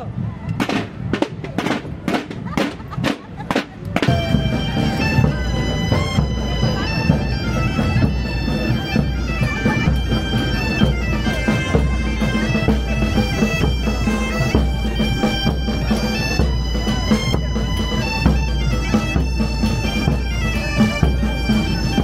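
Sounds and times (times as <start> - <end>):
bass and snare drums: 0.5 - 22.0
bagpipes playing melody: 3.9 - 22.0.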